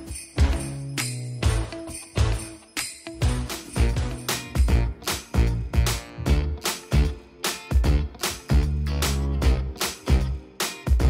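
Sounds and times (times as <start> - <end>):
upbeat music with bass line: 0.0 - 11.0.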